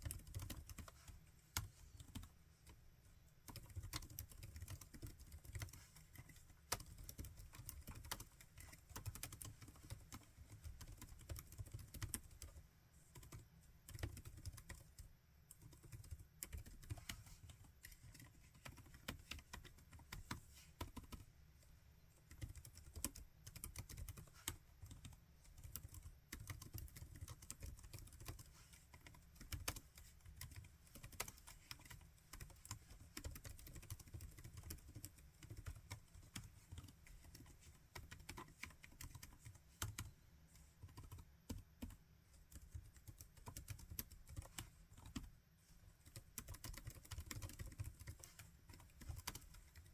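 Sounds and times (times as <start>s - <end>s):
laptop keyboard typing: 0.0s - 2.8s, 3.4s - 21.3s, 22.1s - 45.4s, 46.0s - 49.9s.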